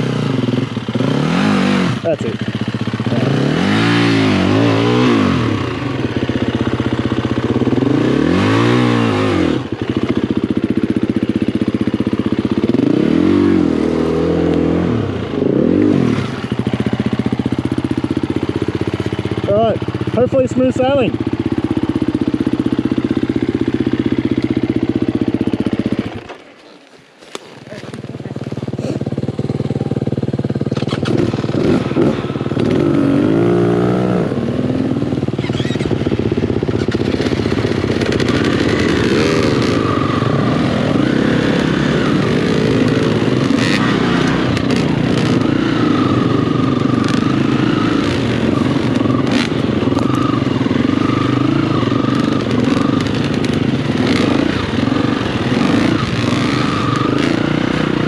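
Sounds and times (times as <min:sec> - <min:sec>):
dirt bike engine revving: 0:00.0 - 0:26.4, 0:27.7 - 0:58.0.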